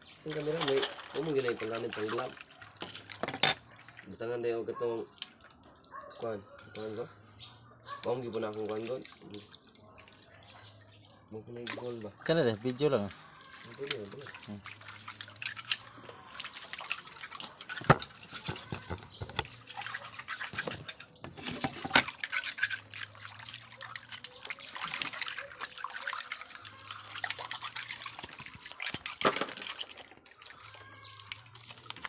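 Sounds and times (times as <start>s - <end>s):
water sloshing and trickling: 0.0s - 32.0s.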